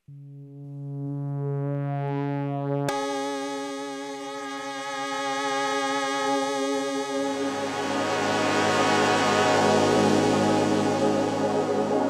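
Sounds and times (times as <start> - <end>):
synthesizer chord: 0.0 - 12.0.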